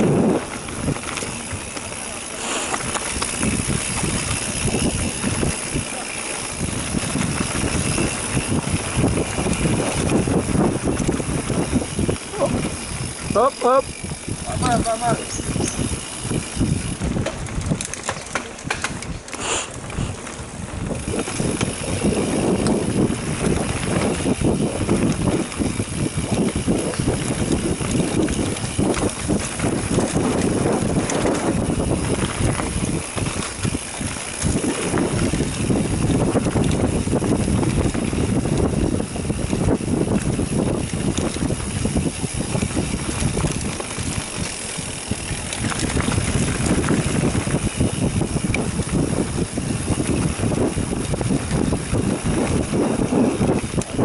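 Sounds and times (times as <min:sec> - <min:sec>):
bike rattling over bumps: 0:00.0 - 0:54.0
bike tyres rolling on dirt: 0:00.0 - 0:54.0
wind buffeting microphone: 0:00.0 - 0:54.0.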